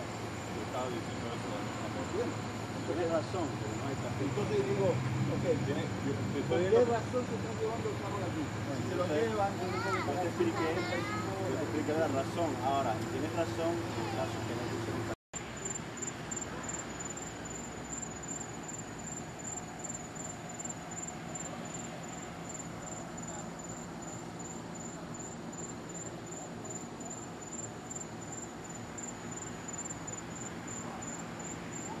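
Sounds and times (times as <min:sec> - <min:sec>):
crickets chirping: 0:00.0 - 0:32.0
faint background hum: 0:00.0 - 0:32.0.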